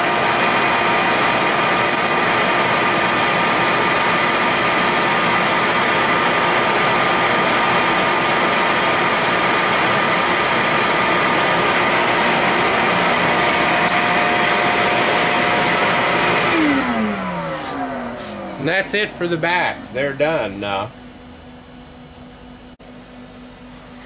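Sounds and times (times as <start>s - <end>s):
shop vacuum running: 0.0s - 24.0s.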